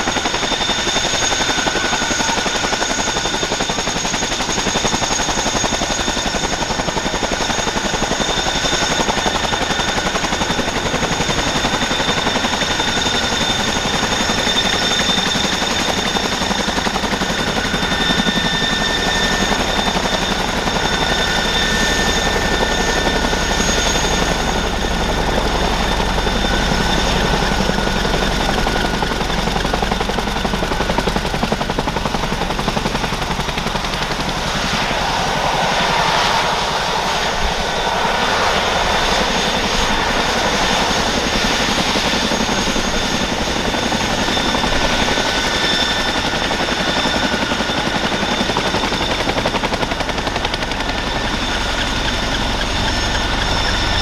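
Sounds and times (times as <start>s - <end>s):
helicopter rotor chop: 0.0s - 54.0s
turbine engine whine: 0.0s - 54.0s.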